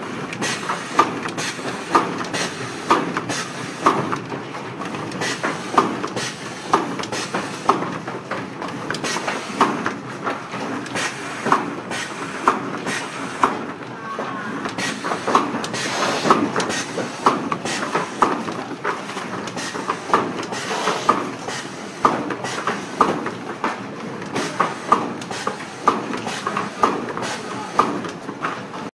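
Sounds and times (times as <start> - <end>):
cartoning machine clatter: 0.0 - 28.9.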